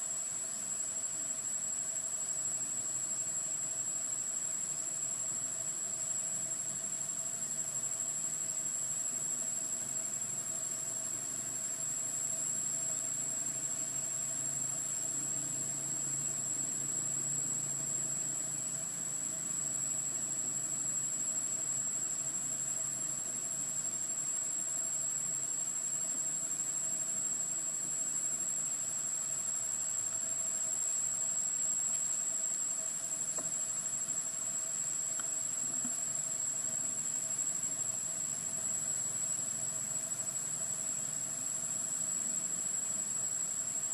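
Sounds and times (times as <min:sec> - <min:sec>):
high-pitched insect drone: 0:00.0 - 0:43.9.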